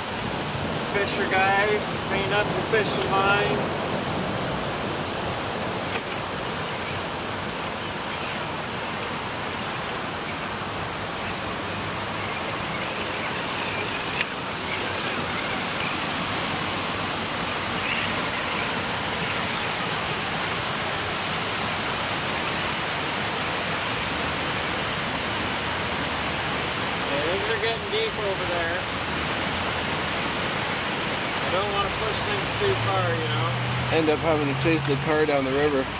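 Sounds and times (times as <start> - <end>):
flowing river water: 0.0 - 35.9.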